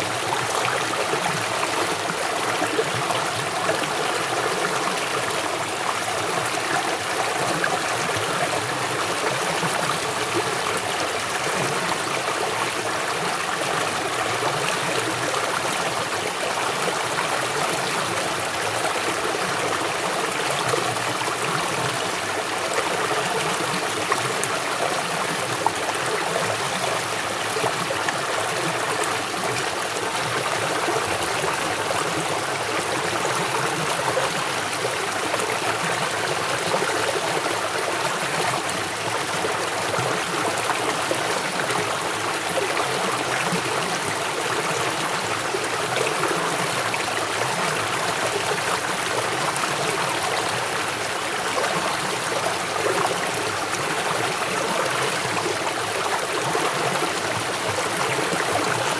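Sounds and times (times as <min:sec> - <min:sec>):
river water flowing over rocks: 0:00.0 - 0:58.9.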